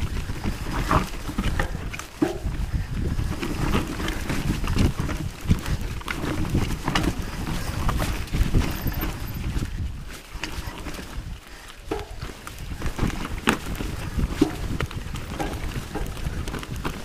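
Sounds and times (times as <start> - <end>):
bike knocking and rattling: 0.0 - 17.0
bike tyres rumbling on dirt: 0.0 - 17.0.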